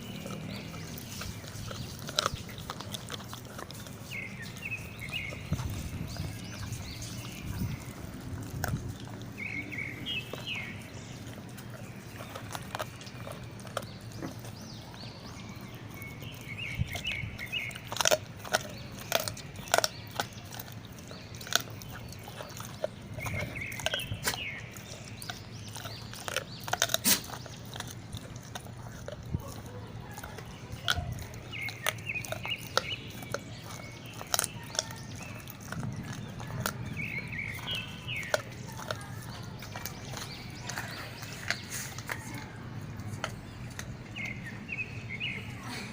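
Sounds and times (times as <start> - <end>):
dogs chewing bones crunching: 0.0 - 45.7.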